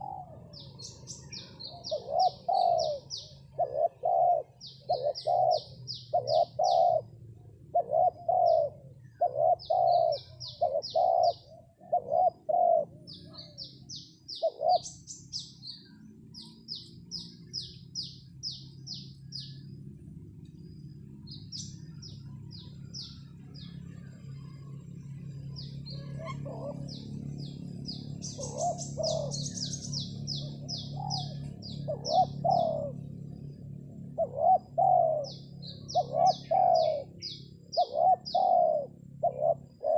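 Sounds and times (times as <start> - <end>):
doves cooing: 0.0 - 19.7, 21.4 - 39.9
low steady hum: 0.0 - 39.9
small birds chirping: 0.0 - 39.9.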